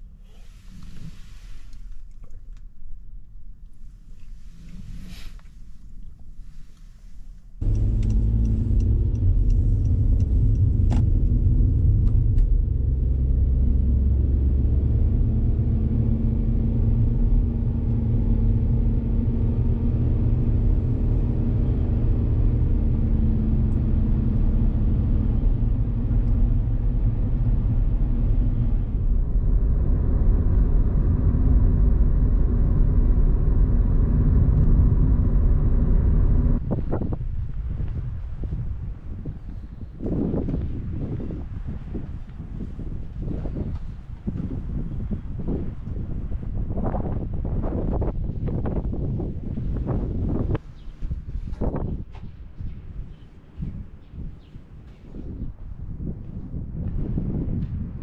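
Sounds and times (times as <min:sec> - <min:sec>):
wind buffeting microphone: 0:07.6 - 0:58.0.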